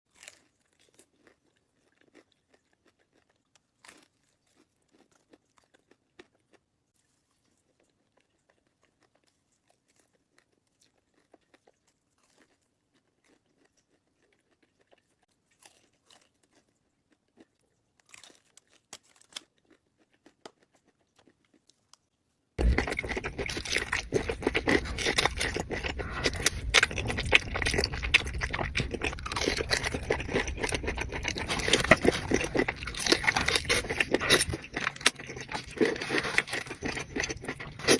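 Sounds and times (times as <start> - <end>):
chewing and crunching food: 0.1 - 37.9.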